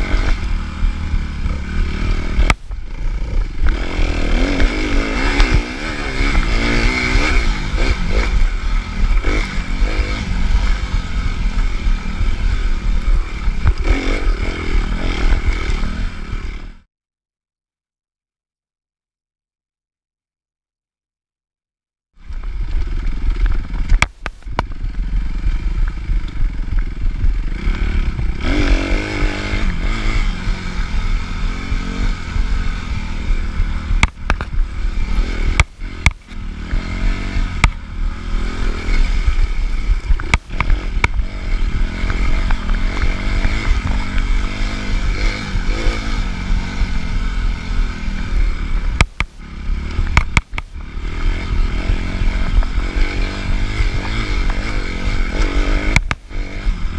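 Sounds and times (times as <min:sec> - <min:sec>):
motocross engine revving: 0:00.0 - 0:16.8, 0:22.4 - 0:56.9.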